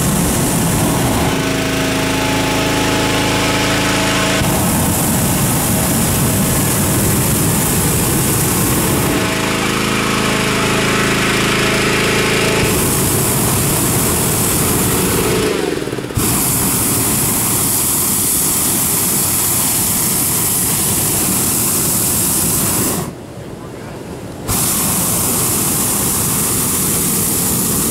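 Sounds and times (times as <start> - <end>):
propane burner blasts: 0.0 - 23.4, 24.2 - 27.9
fan engine droning: 0.0 - 27.9.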